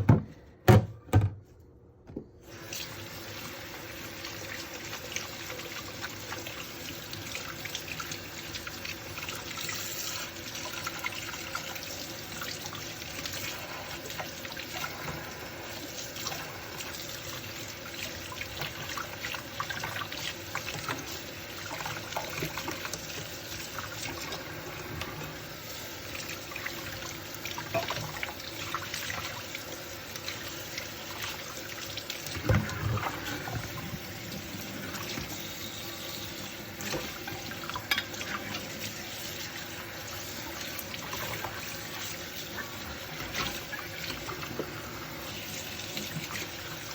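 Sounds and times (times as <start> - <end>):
running tap water: 2.4 - 46.9.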